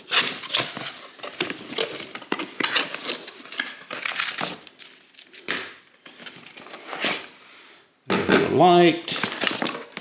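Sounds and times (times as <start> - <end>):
packaging crinkling and rustling: 0.0 - 7.3, 9.1 - 10.0.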